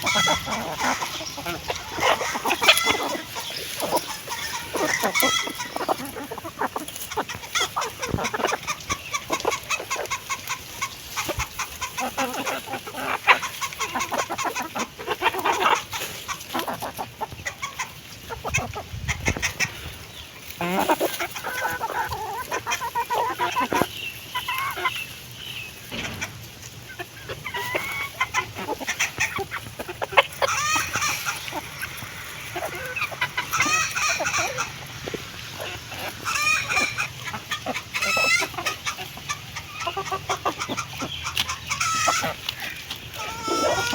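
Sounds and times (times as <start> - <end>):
beaks pecking at food: 0.0 - 43.9
hens clucking: 0.0 - 43.9.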